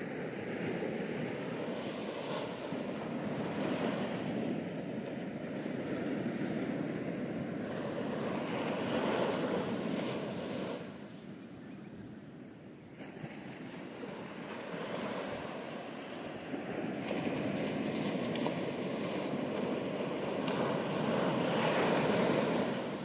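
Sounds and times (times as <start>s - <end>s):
small waves breaking on sand: 0.0s - 23.0s.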